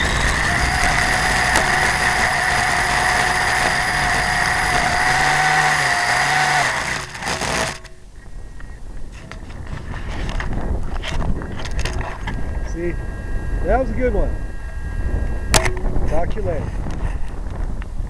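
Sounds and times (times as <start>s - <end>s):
small motor high whine: 0.0s - 8.8s, 9.6s - 18.0s.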